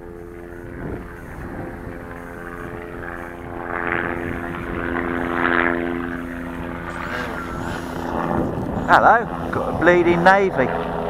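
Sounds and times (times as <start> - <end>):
aircraft humming drone: 0.0 - 11.0.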